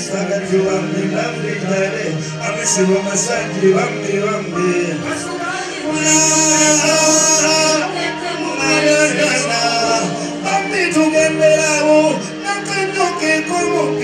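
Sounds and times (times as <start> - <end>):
band music: 0.0 - 14.0
man singing into microphone: 0.0 - 14.0.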